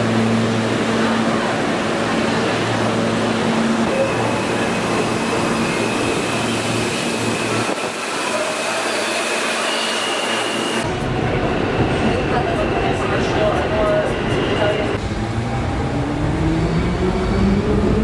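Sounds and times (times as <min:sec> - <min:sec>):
ride inside subway car: 0:00.0 - 0:18.0
subway train rushing: 0:00.0 - 0:18.0.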